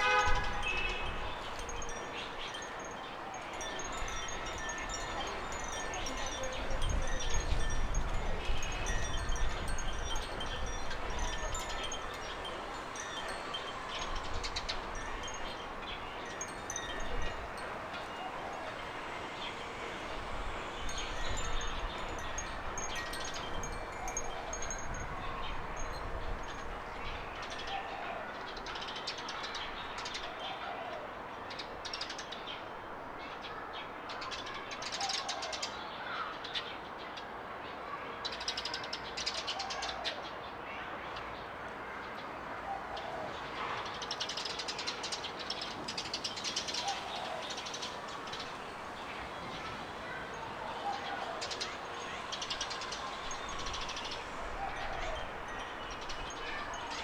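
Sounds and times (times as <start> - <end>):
birds chirping and trilling: 0.0 - 37.3, 42.1 - 57.0.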